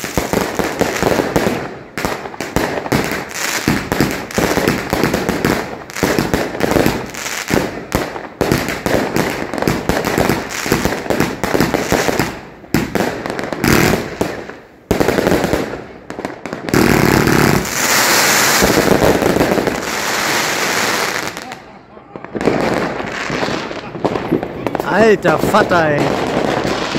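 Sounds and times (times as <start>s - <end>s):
fireworks cracks and bangs: 0.0s - 26.9s.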